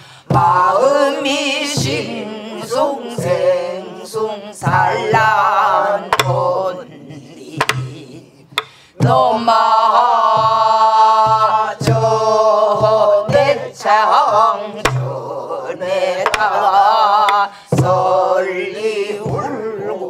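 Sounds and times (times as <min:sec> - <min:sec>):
group singing with vibrato: 0:00.0 - 0:20.0
barrel drum strokes: 0:00.2 - 0:06.7, 0:07.5 - 0:20.0.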